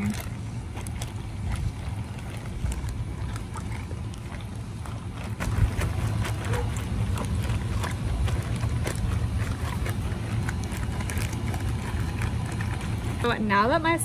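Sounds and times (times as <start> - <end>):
liquid sloshing and squelching: 0.0 - 14.0
plastic bag crinkling: 0.0 - 14.0.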